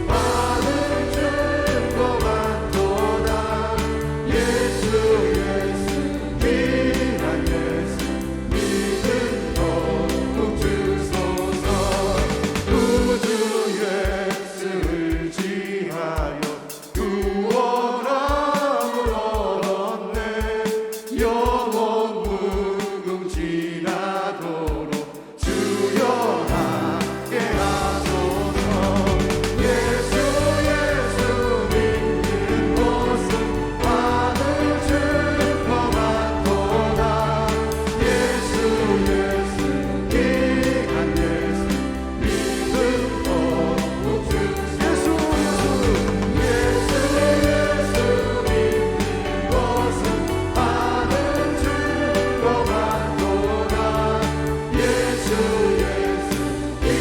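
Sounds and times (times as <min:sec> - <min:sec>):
band accompaniment: 0:00.0 - 0:57.0
praise team singing: 0:00.0 - 0:57.0.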